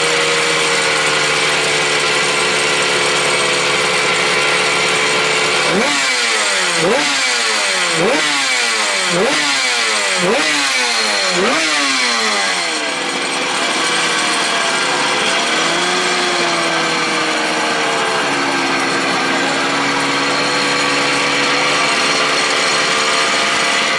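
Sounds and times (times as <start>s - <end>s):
racing motorcycle engine revving and idling: 0.0s - 23.9s.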